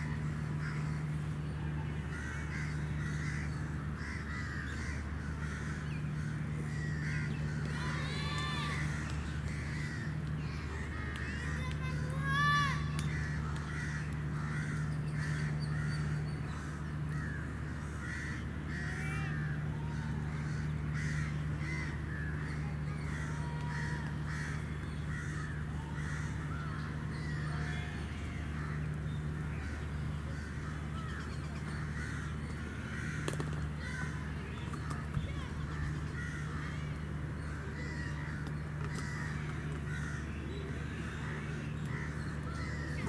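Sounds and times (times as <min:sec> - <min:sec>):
steady low hum: 0:00.0 - 0:43.0
harsh bird calls: 0:00.1 - 0:43.0.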